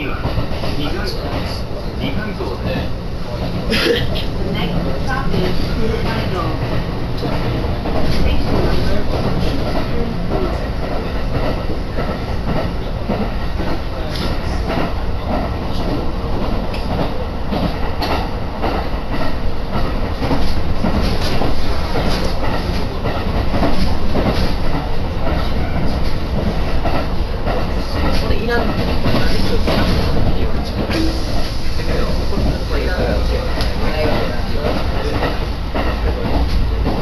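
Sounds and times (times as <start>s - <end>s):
train rumble inside carriage: 0.0s - 37.0s.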